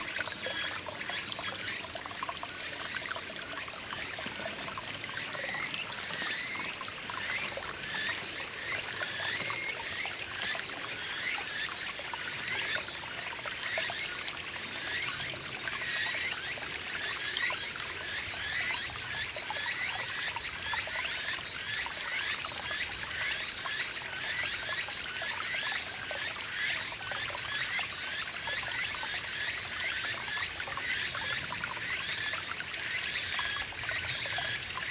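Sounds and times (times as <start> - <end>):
stream babbling over rocks: 0.0 - 34.9.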